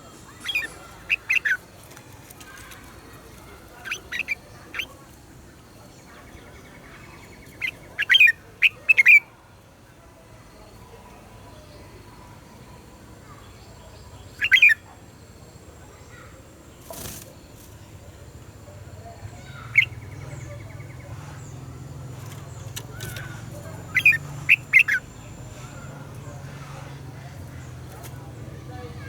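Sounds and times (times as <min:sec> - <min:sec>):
bird chirping song: 0:00.0 - 0:09.4, 0:11.4 - 0:29.0.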